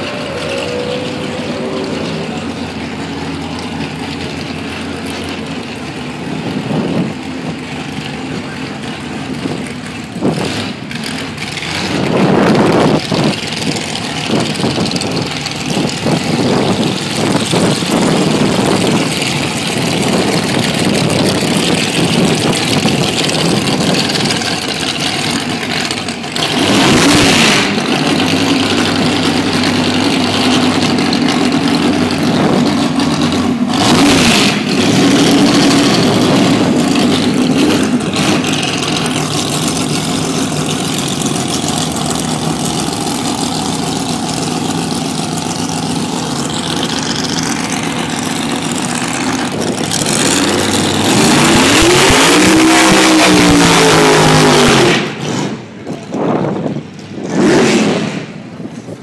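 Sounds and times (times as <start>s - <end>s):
dragster engine running rough: 0.0s - 59.0s.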